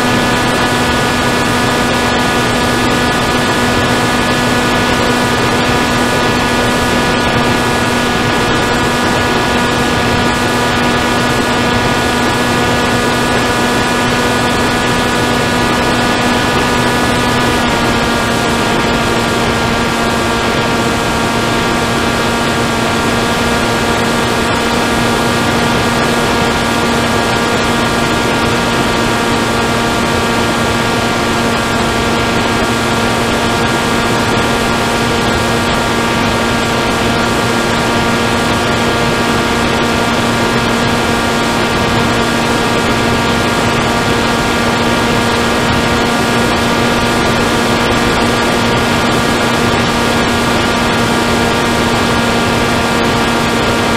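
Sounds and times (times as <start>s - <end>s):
wind noise: 0.0s - 53.9s.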